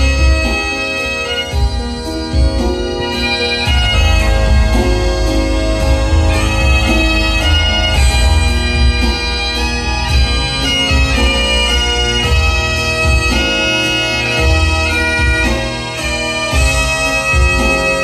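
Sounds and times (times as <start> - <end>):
bagpipe melody with drone: 0.0 - 18.0.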